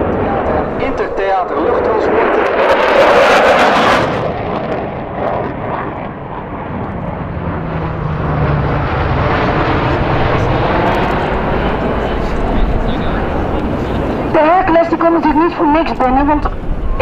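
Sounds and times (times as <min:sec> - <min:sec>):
jet roar: 0:00.0 - 0:17.0
turboprop engines droning overhead: 0:00.0 - 0:17.0.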